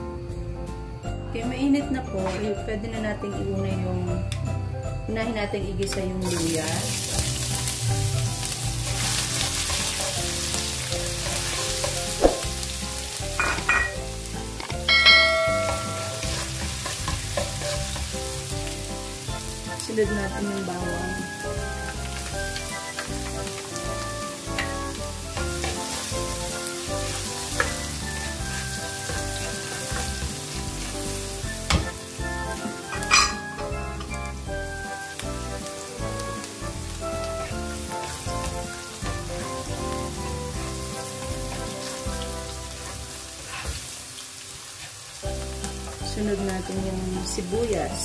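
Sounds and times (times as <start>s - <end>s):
garlic sizzling in hot oil: 6.2s - 48.0s.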